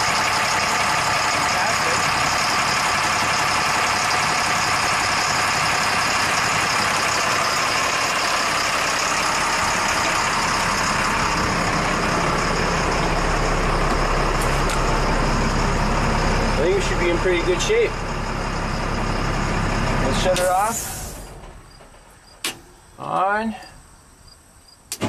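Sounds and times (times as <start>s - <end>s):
diesel truck engine idling: 0.0s - 23.1s.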